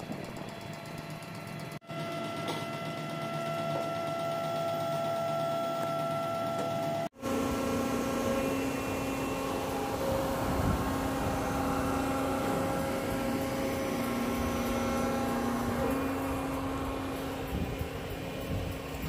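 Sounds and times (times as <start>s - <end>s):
mechanical hum with low tone: 0.0s - 19.0s.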